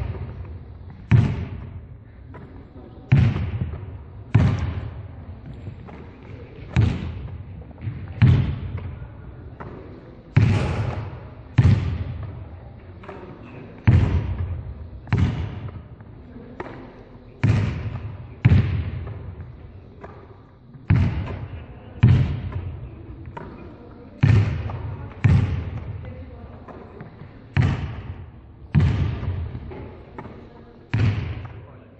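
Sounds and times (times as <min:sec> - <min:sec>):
volleyball hits echoing: 0:00.0 - 0:31.9.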